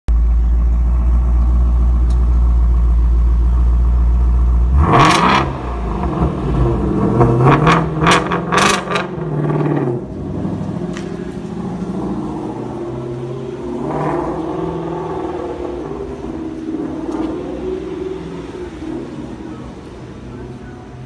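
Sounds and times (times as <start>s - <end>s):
car engine idling and revving: 0.1s - 21.0s.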